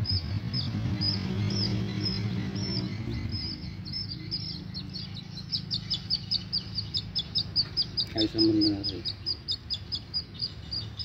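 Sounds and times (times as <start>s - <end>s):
chick peeping: 0.0s - 11.0s.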